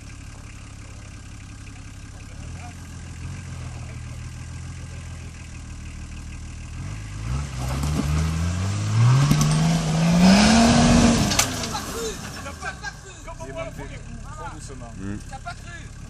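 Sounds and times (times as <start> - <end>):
truck engine revving: 2.0 - 16.0.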